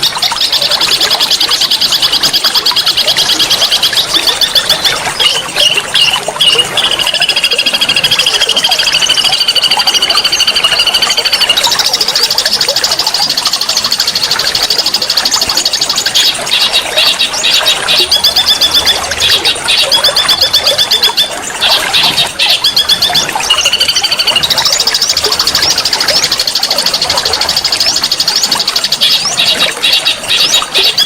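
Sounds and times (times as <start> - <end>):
flowing water rushing: 0.0 - 31.0
songbird trilling song: 0.0 - 31.0.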